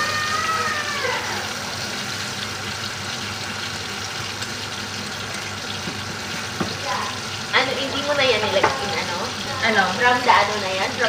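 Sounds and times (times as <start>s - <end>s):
steak sizzling in a frying pan: 0.0s - 11.0s.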